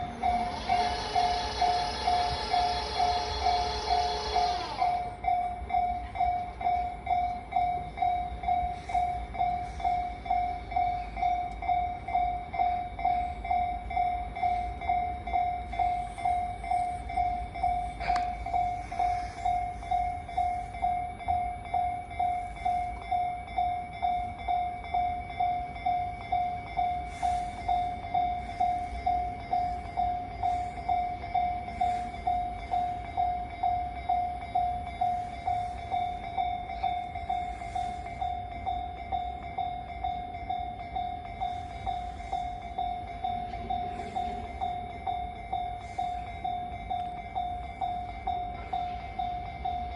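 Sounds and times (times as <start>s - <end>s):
level crossing electronic bell: 0.0s - 49.9s.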